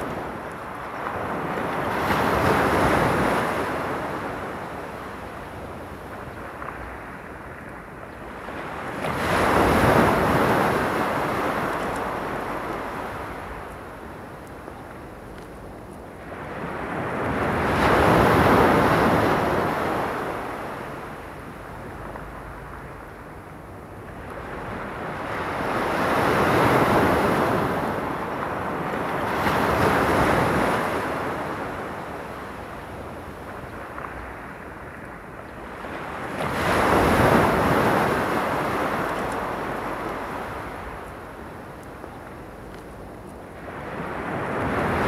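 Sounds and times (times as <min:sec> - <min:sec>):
waves breaking on pebble beach: 0:00.0 - 0:14.5, 0:16.2 - 0:21.6, 0:24.2 - 0:42.4, 0:43.3 - 0:45.0.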